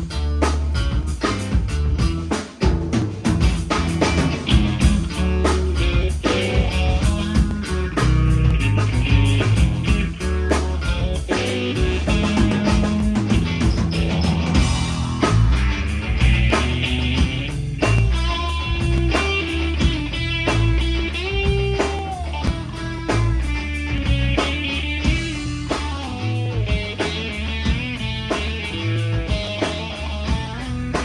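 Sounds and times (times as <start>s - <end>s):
bass guitar: 0.0s - 31.0s
drum beat: 0.0s - 31.0s
electric guitar bending notes: 0.0s - 31.0s.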